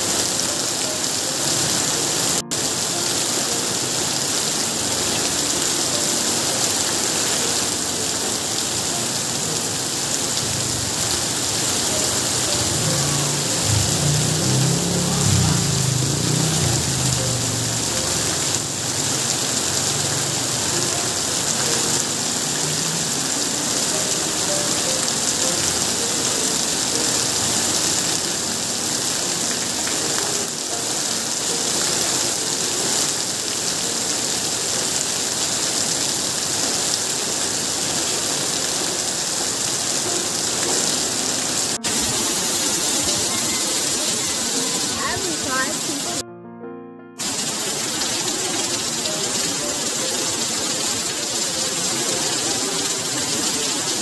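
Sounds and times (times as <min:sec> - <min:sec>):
heavy rain on leaves and pavement: 0:00.0 - 0:46.2, 0:47.2 - 0:54.0.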